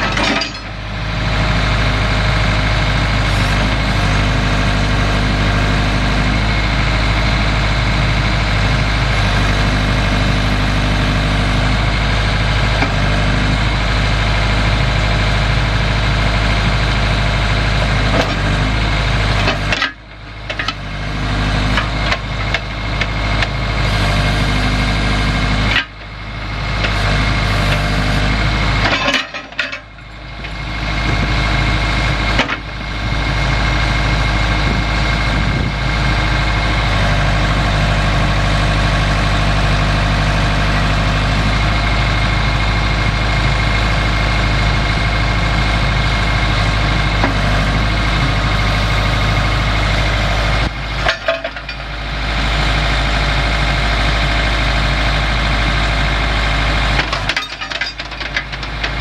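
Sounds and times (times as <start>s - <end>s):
backhoe engine running: 0.0s - 59.0s.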